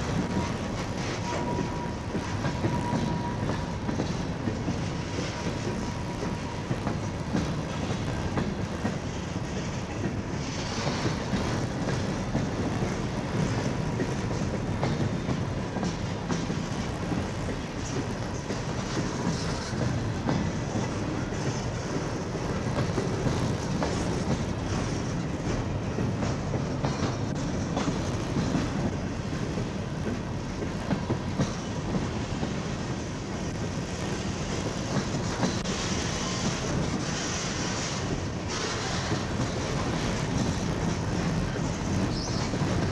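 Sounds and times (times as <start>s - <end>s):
freight train rumbling past: 0.0s - 42.9s
wheels clicking over rail joints: 0.0s - 42.9s.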